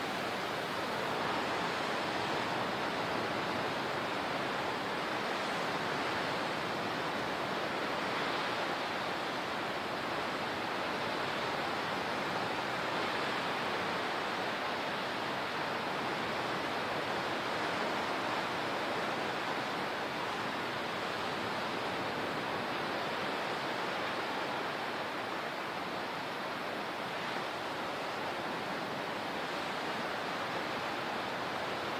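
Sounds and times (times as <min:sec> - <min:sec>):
water rushing: 0:00.0 - 0:31.9.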